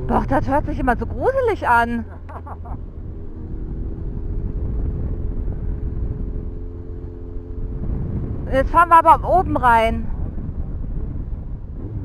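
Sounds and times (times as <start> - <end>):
motorcycle engine hum: 0.0 - 12.0
road and wind rumble: 0.0 - 12.0.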